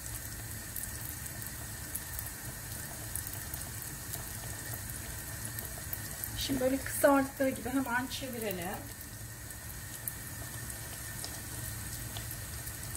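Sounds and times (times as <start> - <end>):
dough sizzling in hot oil: 0.0 - 12.9.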